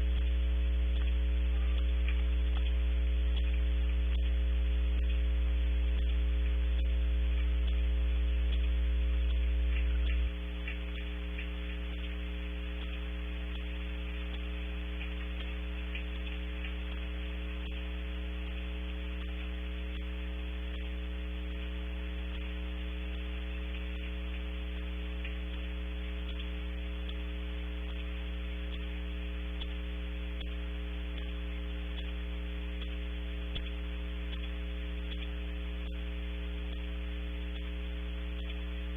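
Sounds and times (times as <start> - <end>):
electrical buzz: 0.0 - 38.9
electrical mains hum: 0.0 - 38.9.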